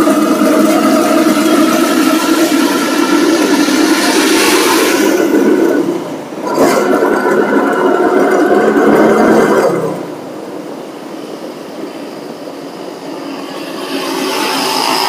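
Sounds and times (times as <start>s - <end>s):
street traffic drone: 0.0s - 15.0s.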